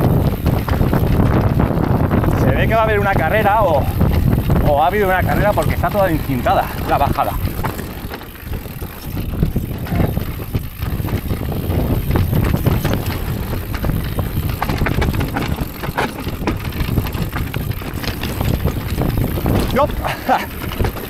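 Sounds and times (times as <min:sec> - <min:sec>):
bike rattling: 0:00.0 - 0:21.0
tyres crunching over stones: 0:00.2 - 0:21.0.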